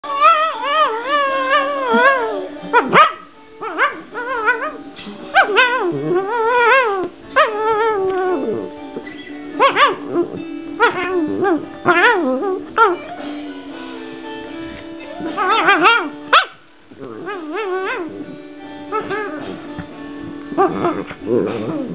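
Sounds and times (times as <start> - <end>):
dog howling and whining: 0.0 - 13.2, 15.2 - 16.1, 17.0 - 19.7, 20.6 - 21.9
dog yipping: 0.0 - 13.2, 15.2 - 19.6.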